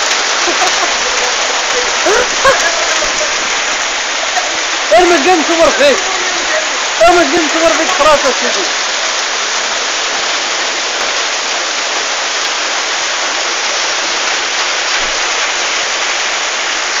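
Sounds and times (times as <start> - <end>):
light rain hissing: 0.0 - 17.0.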